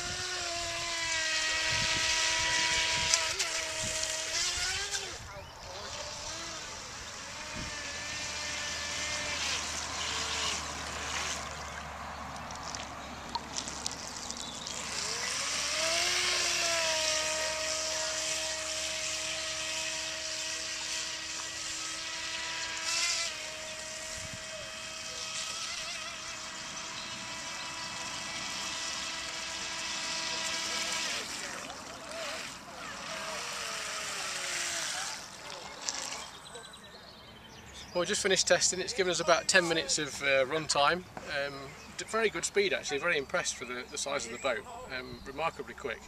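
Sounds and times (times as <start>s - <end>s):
electric boat motor whining: 0.0s - 46.0s.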